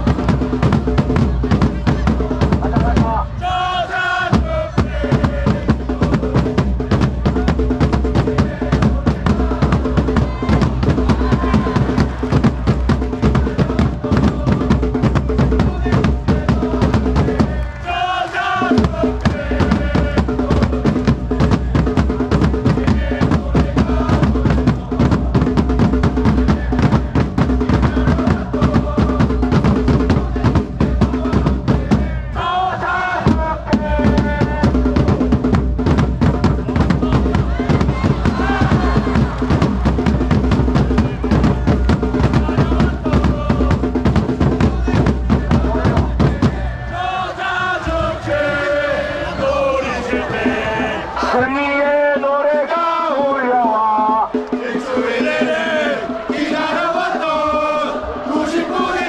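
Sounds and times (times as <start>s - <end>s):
cheer drums beating: 0.0s - 59.0s
crowd singing a chant: 0.0s - 59.0s.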